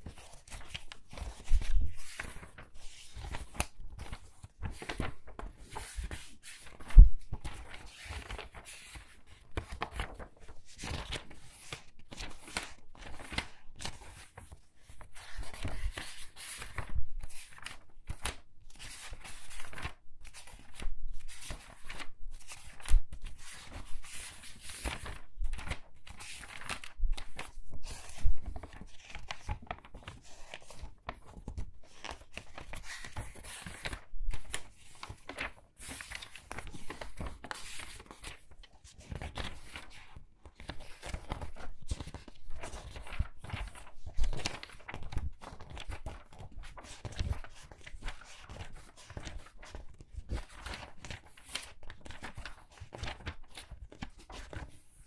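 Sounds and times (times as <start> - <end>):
book pages turning: 0.0 - 55.0.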